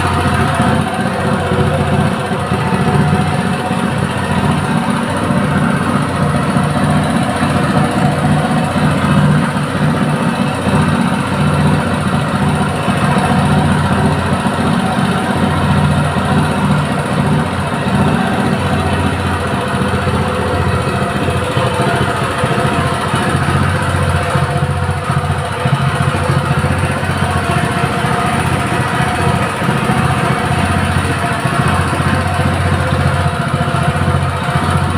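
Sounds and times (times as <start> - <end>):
small engine running steadily: 0.0 - 34.9.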